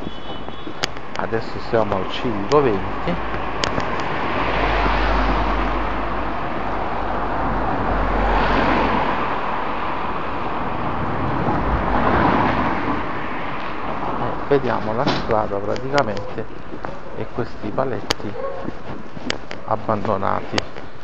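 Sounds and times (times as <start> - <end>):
cars driving past: 0.0 - 18.5.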